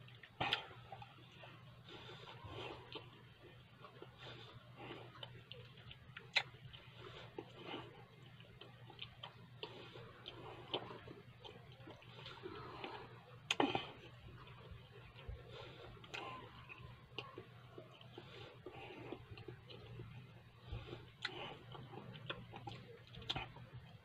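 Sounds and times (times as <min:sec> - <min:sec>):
faint low hum: 0:00.0 - 0:24.0
man chewing food: 0:00.0 - 0:24.0.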